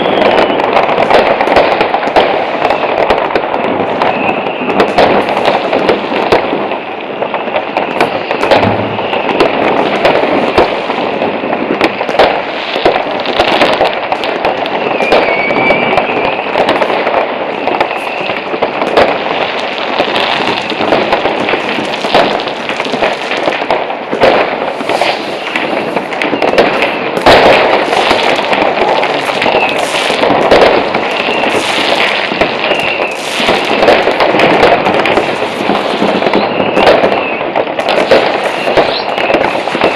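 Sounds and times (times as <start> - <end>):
fireworks crackling and banging: 0.0 - 39.9
whistling rockets: 0.0 - 39.9.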